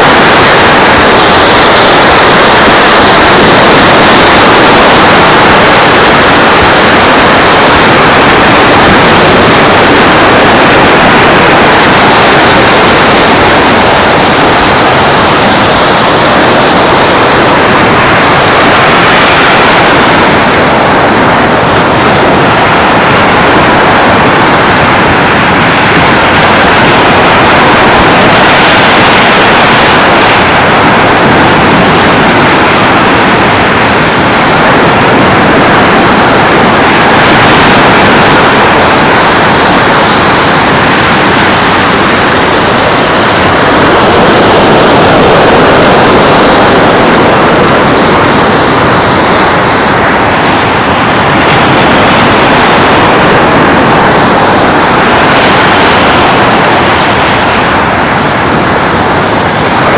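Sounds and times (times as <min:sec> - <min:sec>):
surf on the shore: 0:00.0 - 0:59.9
wind blowing across microphone: 0:00.0 - 0:59.9.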